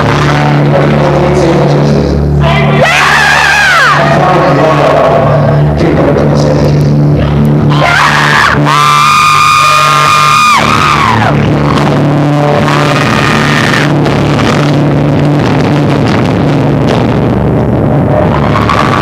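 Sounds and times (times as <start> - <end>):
distorted live rock band: 0.0 - 19.0.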